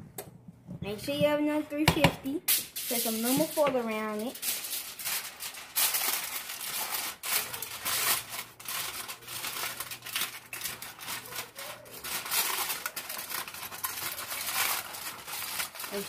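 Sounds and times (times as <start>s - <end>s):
aluminum foil crinkling: 2.5s - 16.0s.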